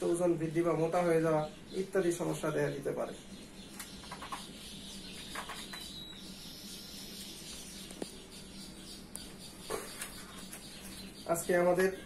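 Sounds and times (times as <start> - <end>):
faint high chirping: 0.0 - 12.0
steady low hum: 0.0 - 12.0.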